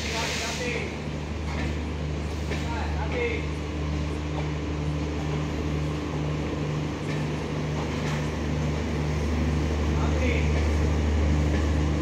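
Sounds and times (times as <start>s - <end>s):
train coaches rolling past: 0.0s - 12.0s.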